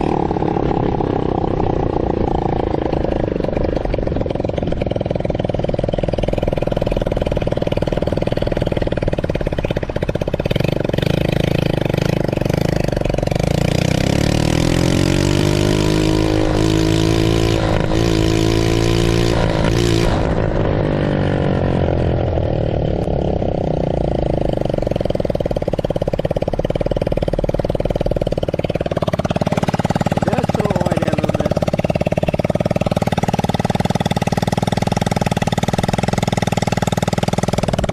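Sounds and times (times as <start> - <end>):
small atv engine revving: 0.0 - 37.9.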